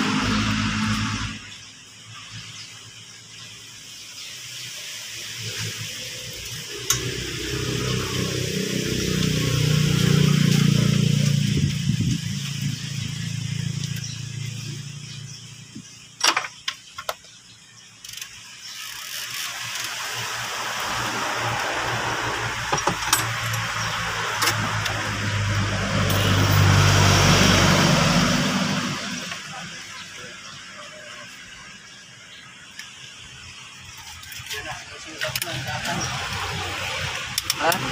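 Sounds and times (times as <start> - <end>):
motor vehicles passing: 0.0 - 37.9.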